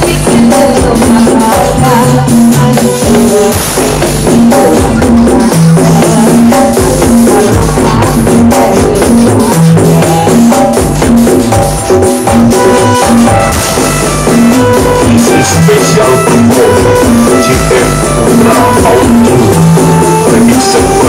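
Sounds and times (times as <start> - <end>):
loud music over loudspeakers: 0.0 - 21.0.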